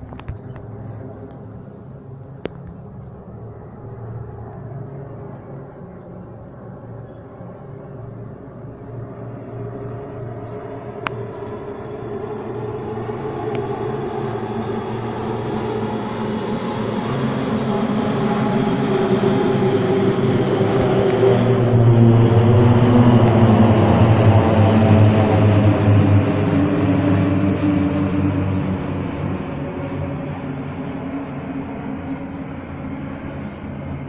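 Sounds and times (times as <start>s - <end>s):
aircraft engine rumble: 0.0s - 34.0s.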